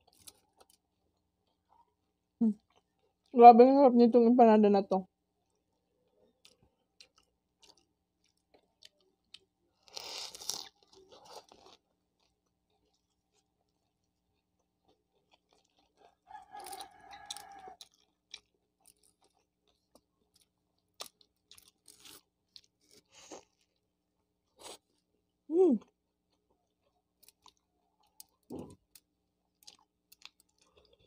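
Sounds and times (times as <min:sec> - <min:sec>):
crunching bites of crisp crust: 0:00.0 - 0:01.8, 0:05.5 - 0:25.2, 0:25.9 - 0:31.0
chewing: 0:00.0 - 0:03.3, 0:05.4 - 0:25.1, 0:25.9 - 0:31.0.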